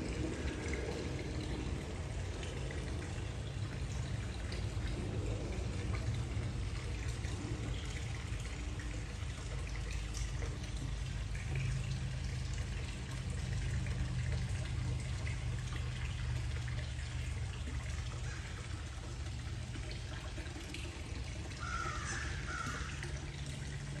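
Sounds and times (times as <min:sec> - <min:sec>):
constant low hum: 0:00.0 - 0:24.0
water trickling in fish tank: 0:00.0 - 0:24.0.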